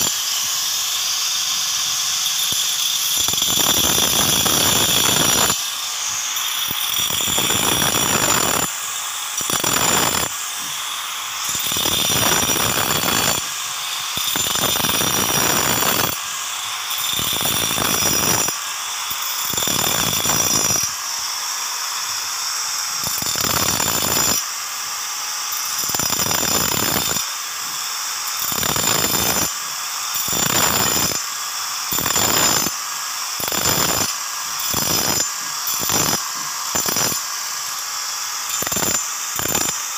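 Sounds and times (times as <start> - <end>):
angle grinder cutting stone: 0.0 - 39.9.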